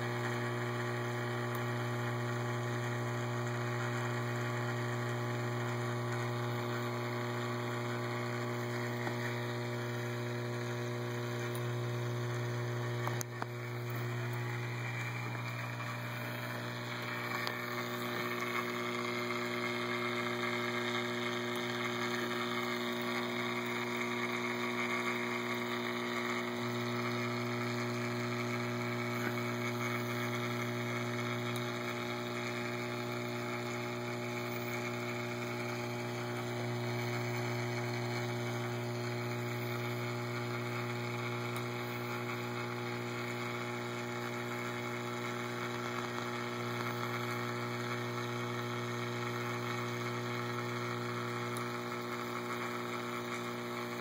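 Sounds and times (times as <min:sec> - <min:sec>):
aquarium pump humming: 0:00.0 - 0:54.0.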